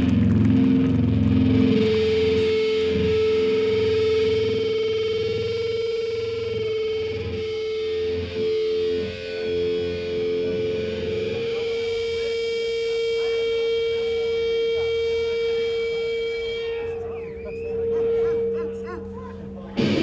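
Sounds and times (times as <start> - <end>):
distorted electric guitar feedback: 0.0 - 20.0.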